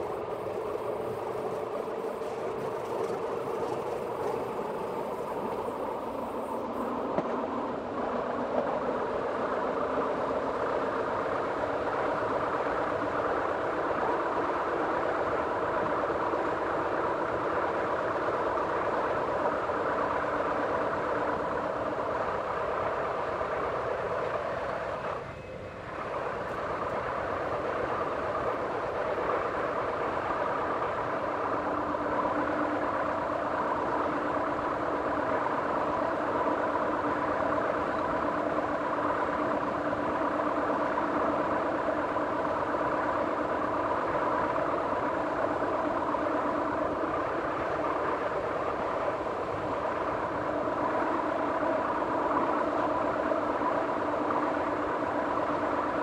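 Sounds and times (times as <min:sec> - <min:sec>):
constant whine: 0:00.0 - 0:56.0
train running rumble: 0:00.0 - 0:56.0.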